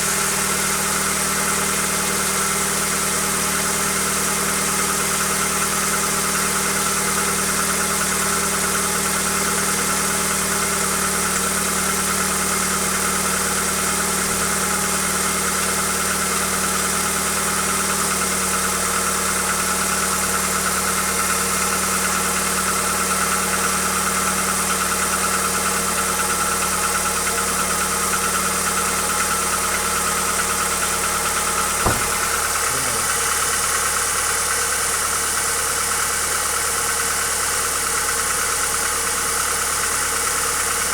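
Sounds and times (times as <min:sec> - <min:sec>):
car engine idling with knock: 0:00.0 - 0:35.6.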